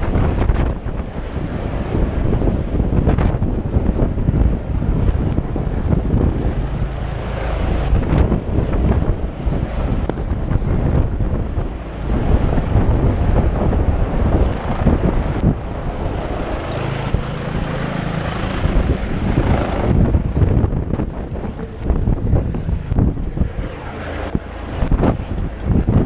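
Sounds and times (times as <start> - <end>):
helicopter hovering overhead: 0.0 - 26.0
wind buffeting the microphone: 0.0 - 26.0.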